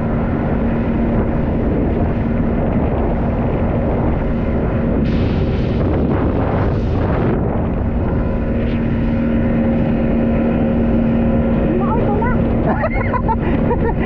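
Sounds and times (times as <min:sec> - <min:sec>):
motorboat engine running: 0:00.0 - 0:14.0
wind rush on microphone: 0:00.0 - 0:14.0.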